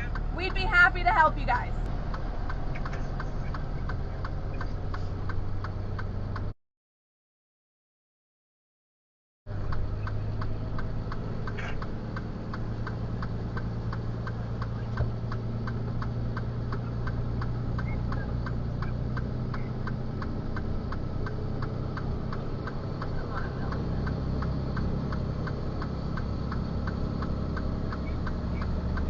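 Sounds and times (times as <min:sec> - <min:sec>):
truck engine humming: 0:00.0 - 0:06.5, 0:09.5 - 0:29.0.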